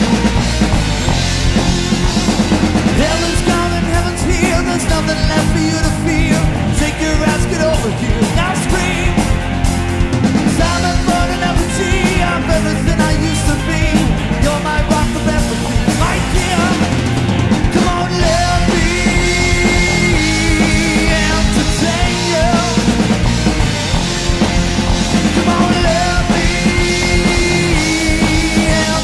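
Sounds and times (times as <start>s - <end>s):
rock band playing: 0.0s - 29.0s.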